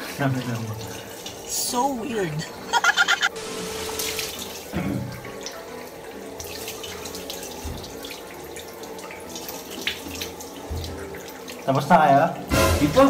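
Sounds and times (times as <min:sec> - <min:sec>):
water running from a tap: 0:00.0 - 0:13.0.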